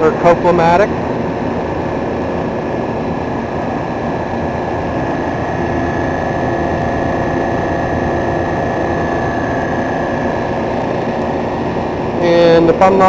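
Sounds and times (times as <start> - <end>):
refrigeration compressor humming: 0.0 - 13.0
thin steady whine: 0.0 - 13.0.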